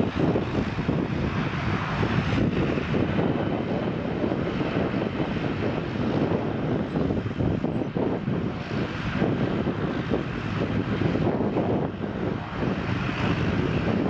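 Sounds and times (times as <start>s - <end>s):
jet engine hiss: 0.0s - 14.0s
jet engines rumbling: 0.0s - 14.0s.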